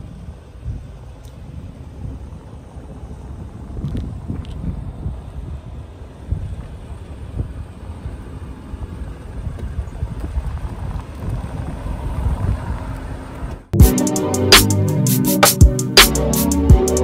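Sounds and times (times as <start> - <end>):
gusty wind on microphone: 0.0 - 13.7
street traffic hum: 0.0 - 17.0.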